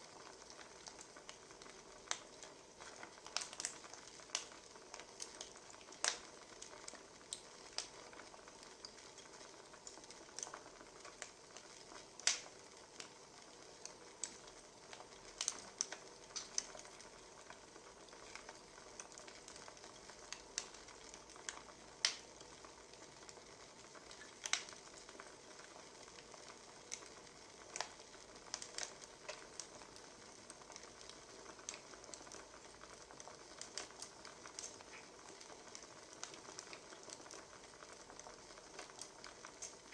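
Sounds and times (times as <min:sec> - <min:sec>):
faint steady hiss: 0:00.0 - 0:39.9
firewood crackling: 0:00.0 - 0:39.9.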